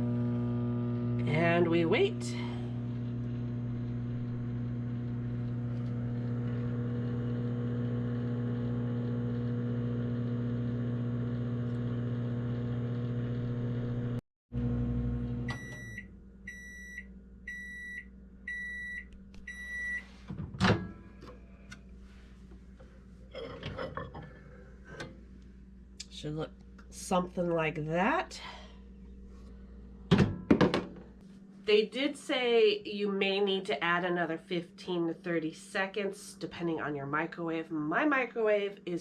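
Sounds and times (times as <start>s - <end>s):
microwave oven humming: 0.0s - 31.2s.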